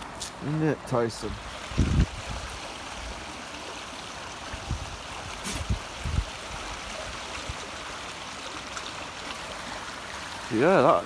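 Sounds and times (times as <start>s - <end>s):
floodwater stream rushing: 0.0s - 11.0s.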